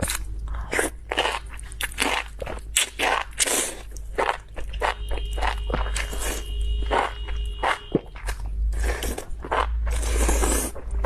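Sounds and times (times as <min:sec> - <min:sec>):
slurping: 0:00.0 - 0:11.0
wet biting and chewing: 0:00.0 - 0:11.0.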